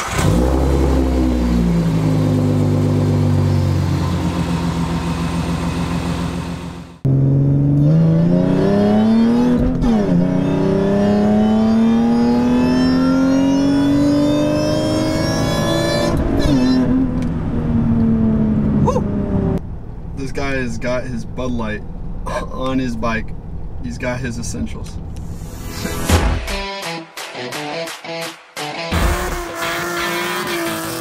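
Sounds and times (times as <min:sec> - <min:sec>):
car engine idling and revving: 0:00.0 - 0:26.1, 0:28.9 - 0:31.0.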